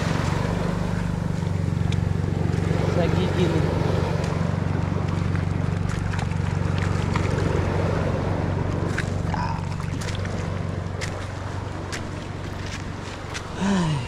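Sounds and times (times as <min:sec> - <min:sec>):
distant boat engine drone: 0:00.0 - 0:14.0.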